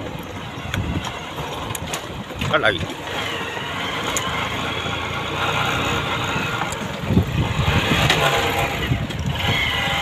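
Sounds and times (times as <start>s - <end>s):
motorcycle engine on dirt track: 0.0s - 10.0s.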